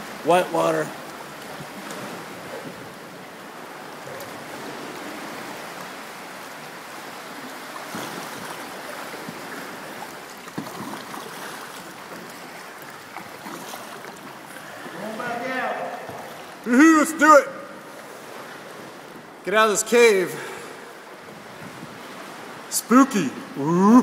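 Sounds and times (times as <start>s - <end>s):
whitewater rushing around kayak: 0.0s - 24.0s.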